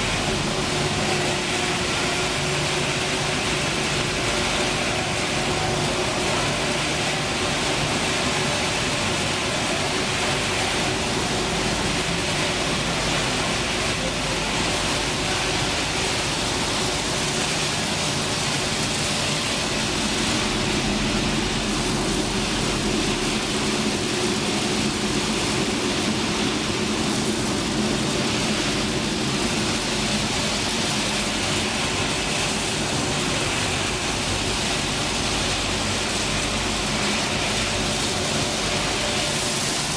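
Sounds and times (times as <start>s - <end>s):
low machine hum: 0.0s - 39.9s
production line machinery running: 0.0s - 39.9s.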